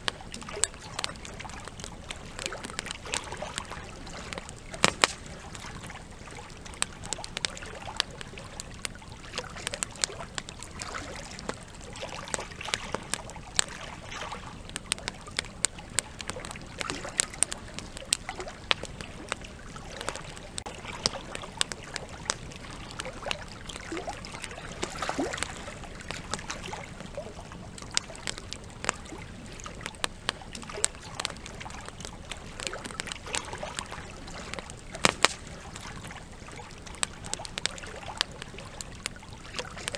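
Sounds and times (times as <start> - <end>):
campfire crackling and popping: 0.0 - 39.9
river trickling and rushing: 0.0 - 39.9.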